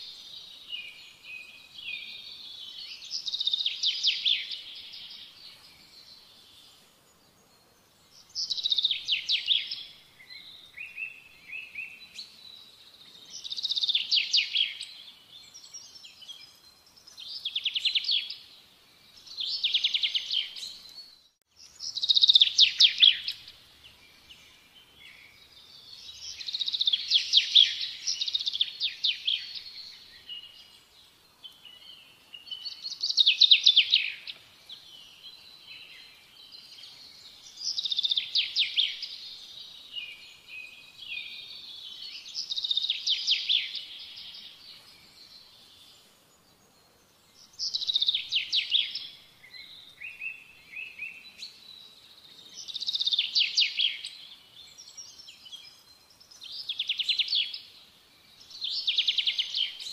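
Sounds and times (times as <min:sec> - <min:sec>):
soft bird twittering: 0:00.0 - 0:46.1, 0:47.2 - 0:59.9.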